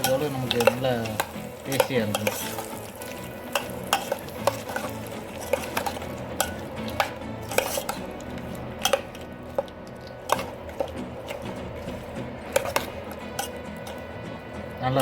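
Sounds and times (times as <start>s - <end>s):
metal spoon scraping a pan: 0.0s - 14.2s
onions sauteing in oil: 0.0s - 15.0s.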